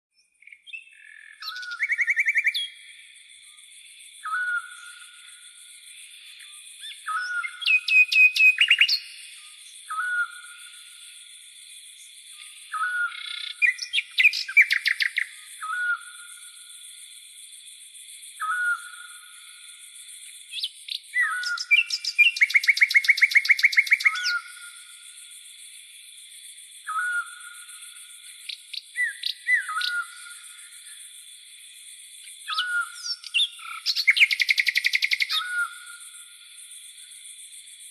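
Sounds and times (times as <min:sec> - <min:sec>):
crickets droning: 0:00.2 - 0:37.9.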